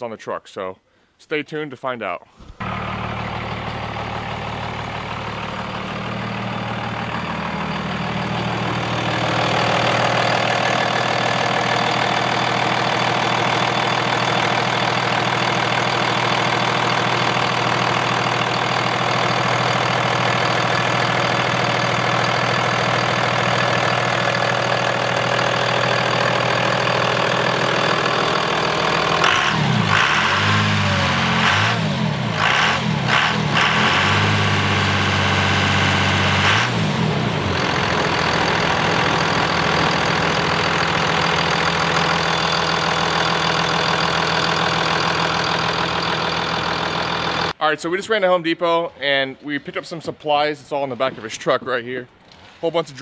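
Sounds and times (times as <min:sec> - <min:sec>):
diesel engine idling and revving: 0:02.5 - 0:47.6.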